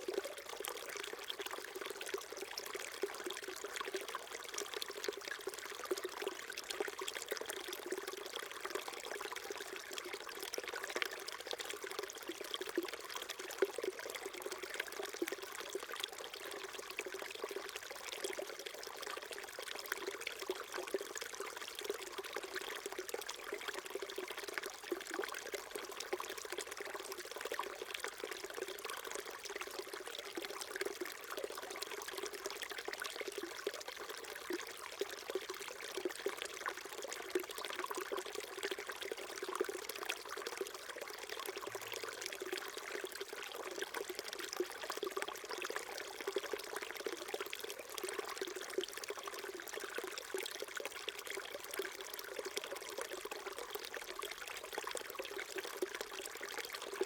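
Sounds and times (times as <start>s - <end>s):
stream burbling over stones: 0.0s - 57.0s.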